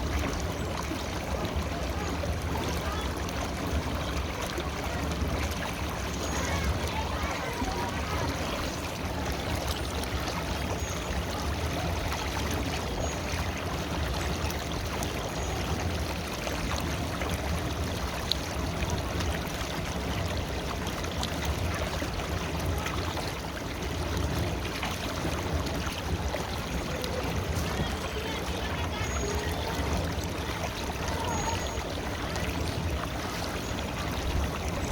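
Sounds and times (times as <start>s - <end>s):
river flowing: 0.0s - 34.9s.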